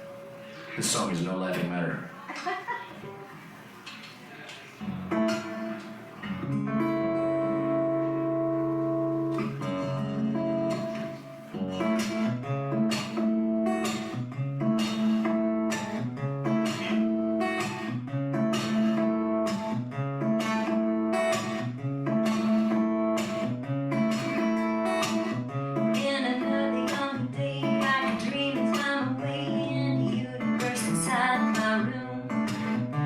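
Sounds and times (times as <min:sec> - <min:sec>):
acoustic guitar strumming chords: 0:00.0 - 0:02.2, 0:04.8 - 0:33.0.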